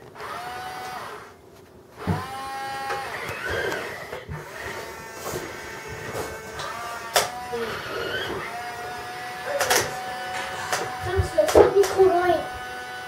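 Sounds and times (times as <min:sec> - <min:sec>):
small electric motors whining: 0:00.2 - 0:01.4, 0:02.0 - 0:13.0.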